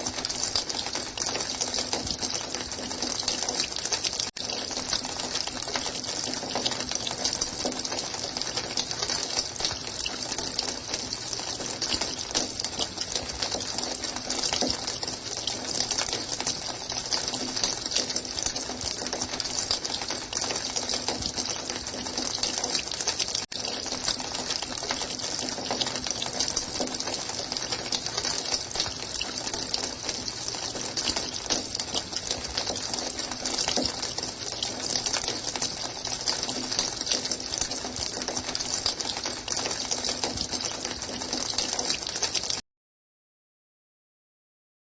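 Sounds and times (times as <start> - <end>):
running water: 0.0 - 42.6.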